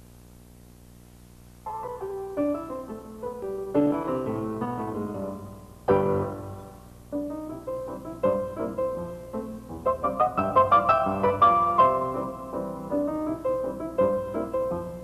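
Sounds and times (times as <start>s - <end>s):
steady low hum: 0.0s - 15.0s
piano music: 1.7s - 15.0s.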